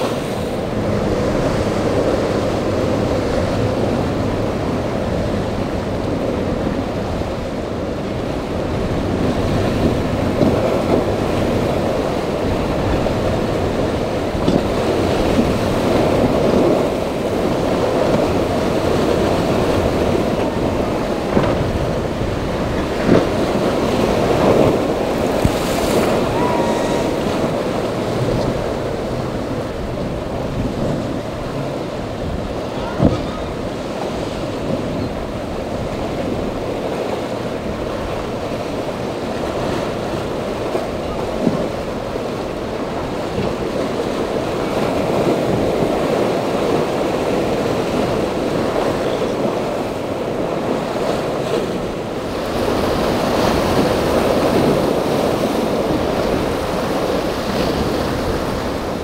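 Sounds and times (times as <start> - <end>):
waves breaking: 0.0 - 59.0
wind rumble on microphone: 0.0 - 59.0.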